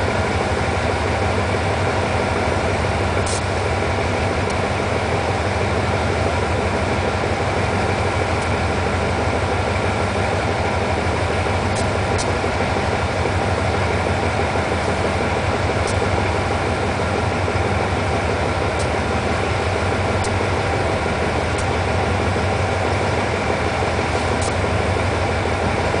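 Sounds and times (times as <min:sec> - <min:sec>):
diesel locomotive engines idling: 0:00.0 - 0:26.0.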